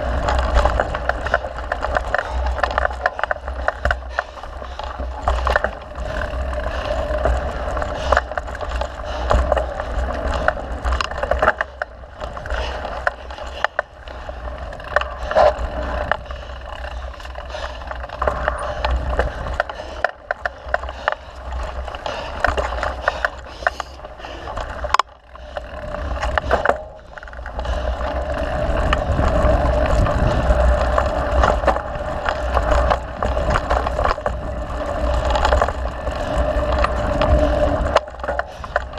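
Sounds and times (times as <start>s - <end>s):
bike chain and frame rattling: 0.0s - 38.9s
bike tyres on dirt trail: 0.0s - 38.9s.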